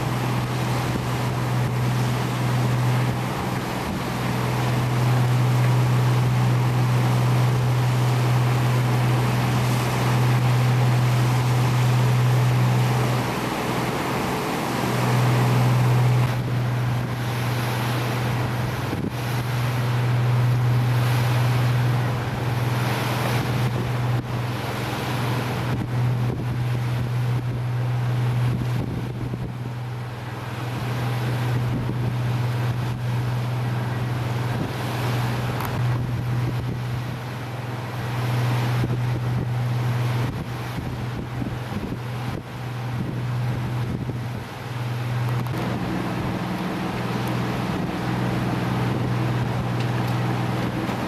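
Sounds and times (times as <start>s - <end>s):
boat engine droning: 0.0s - 51.0s
water rushing past hull: 0.0s - 51.0s
wind buffeting microphone: 0.0s - 51.0s.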